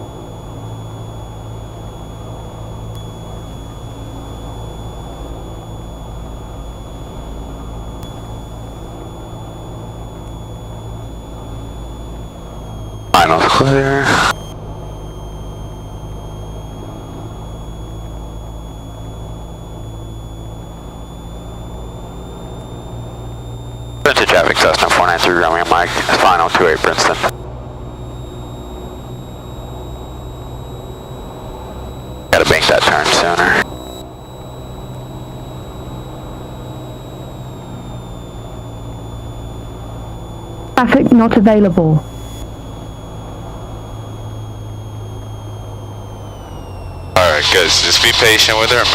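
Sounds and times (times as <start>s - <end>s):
high whine: 0.0s - 48.9s
propeller plane engine droning: 0.0s - 48.9s.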